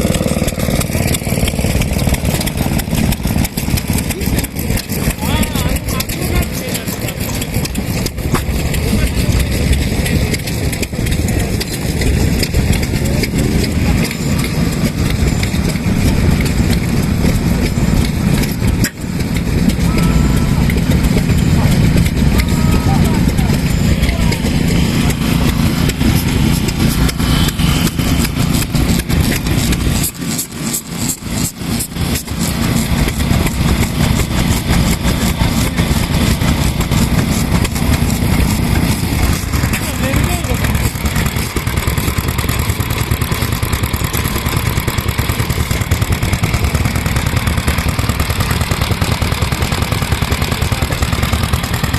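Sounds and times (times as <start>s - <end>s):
engines chugging at idle: 0.0s - 51.9s
sharp clicks and knocks: 0.0s - 51.9s.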